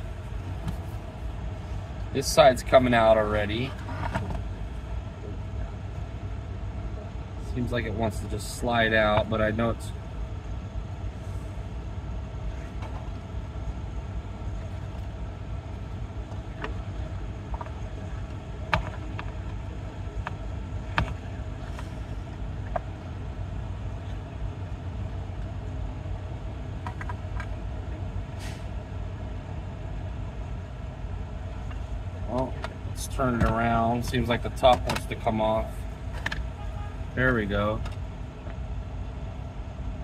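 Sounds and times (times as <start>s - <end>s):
low mechanical rumble: 0.0s - 40.0s.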